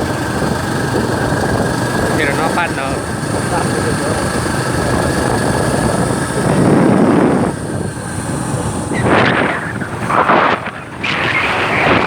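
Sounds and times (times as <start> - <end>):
motorbike engine: 0.0 - 12.0
wind on microphone: 0.0 - 12.0.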